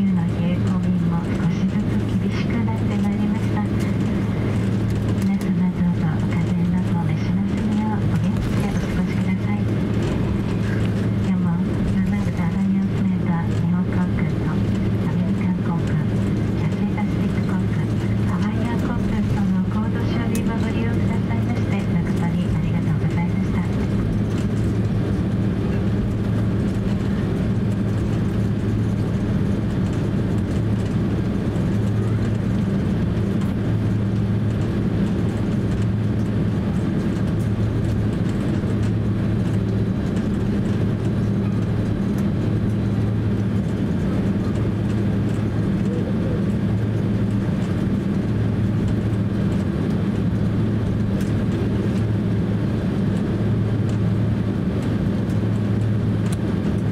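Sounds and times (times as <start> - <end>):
airliner cabin engine drone: 0.0 - 56.9.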